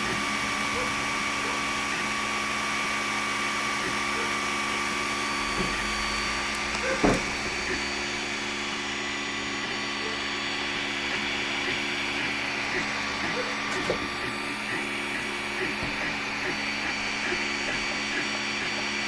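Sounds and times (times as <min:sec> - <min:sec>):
printer fans and motors humming: 0:00.0 - 0:19.0.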